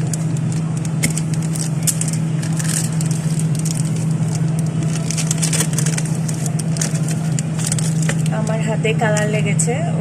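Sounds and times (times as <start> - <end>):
plastic bags crinkling: 0.0 - 9.3
steady low hum: 0.0 - 10.0.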